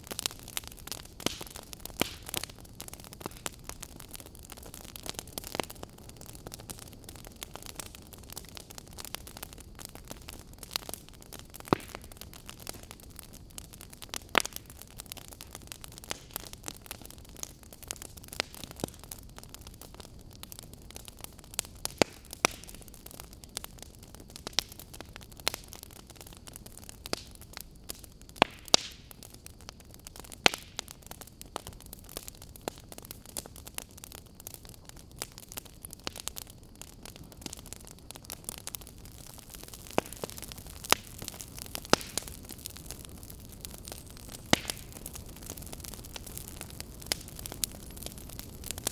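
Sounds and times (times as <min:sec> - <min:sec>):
fire hissing: 0:00.0 - 0:48.9
wood fire crackling and popping: 0:00.0 - 0:48.9.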